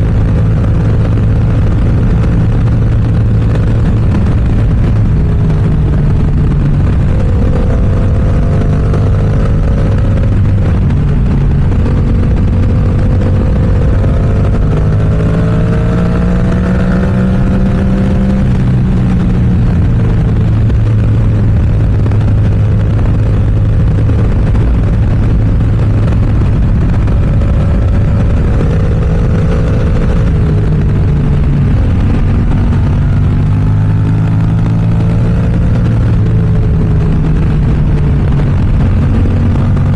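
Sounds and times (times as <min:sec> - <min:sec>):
motorcycle engine while riding: 0:00.0 - 0:39.9
wind noise: 0:00.0 - 0:39.9.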